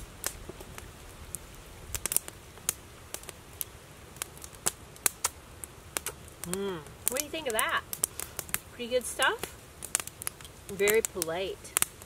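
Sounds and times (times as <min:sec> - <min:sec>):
campfire crackling: 0:00.0 - 0:12.0
low steady rumble: 0:00.0 - 0:12.0.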